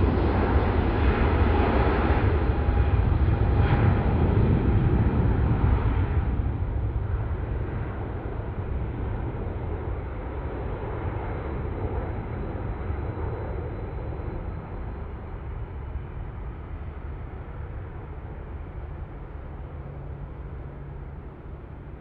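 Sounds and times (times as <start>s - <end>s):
high engine whine: 0.0s - 22.0s
jet engines rumbling: 0.0s - 22.0s.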